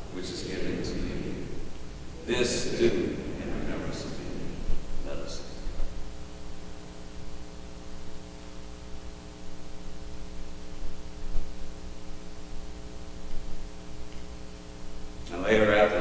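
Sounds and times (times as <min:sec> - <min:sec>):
electrical mains hum: 0:00.0 - 0:16.0
sound system hiss: 0:00.0 - 0:16.0.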